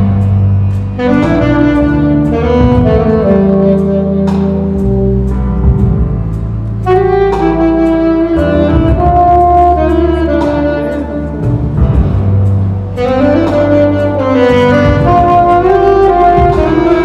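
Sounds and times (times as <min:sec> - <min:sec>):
low sustained bass notes: 0:00.0 - 0:17.0
saxophone melody: 0:00.0 - 0:17.0.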